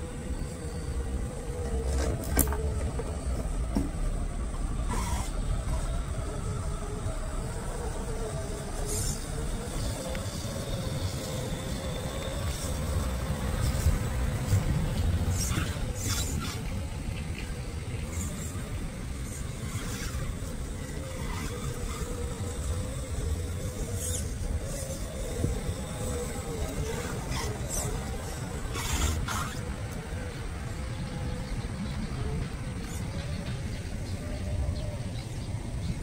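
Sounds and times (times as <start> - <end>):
rc car motor whining: 0.0 - 36.0.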